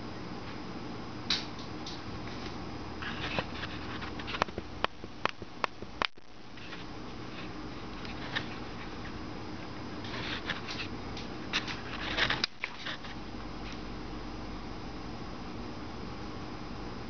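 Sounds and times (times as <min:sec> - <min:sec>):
indoor room hum: 0:00.0 - 0:17.0.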